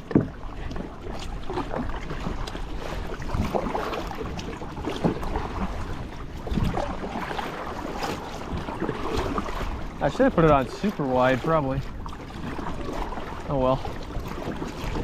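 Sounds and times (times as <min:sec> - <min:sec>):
wind on microphone: 0:00.0 - 0:10.7, 0:11.3 - 0:15.0
kayak paddles dipping in water: 0:00.0 - 0:15.0
water splashing: 0:00.0 - 0:15.0.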